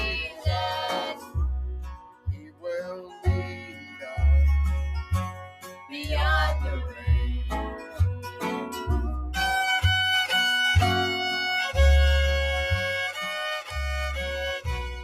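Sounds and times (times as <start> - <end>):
bass line: 0.0 - 15.0
fiddle melody: 0.0 - 15.0.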